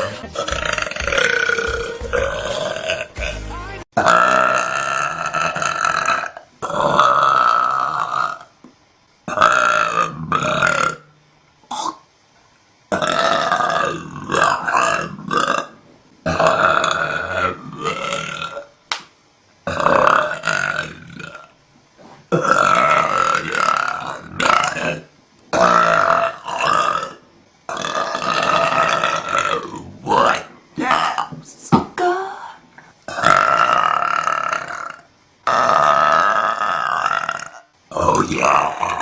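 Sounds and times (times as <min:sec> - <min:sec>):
woman belching: 0:00.0 - 0:03.4, 0:04.0 - 0:08.5, 0:09.3 - 0:11.1, 0:12.9 - 0:15.7, 0:16.3 - 0:18.6, 0:19.7 - 0:21.5, 0:22.3 - 0:31.4, 0:32.0 - 0:39.0.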